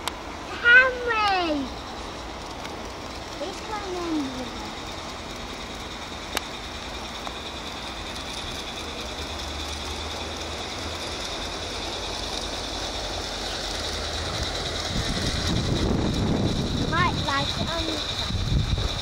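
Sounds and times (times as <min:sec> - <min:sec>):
model train running with whine: 0:00.0 - 0:19.0.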